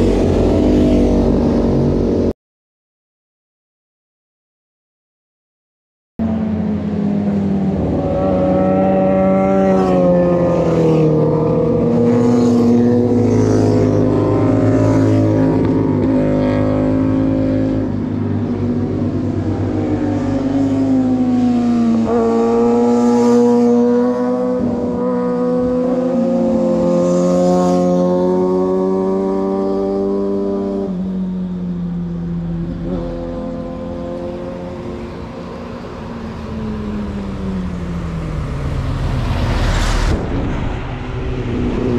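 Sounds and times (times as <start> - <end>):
motorcycle engines revving: 0.0 - 2.3, 6.2 - 41.9.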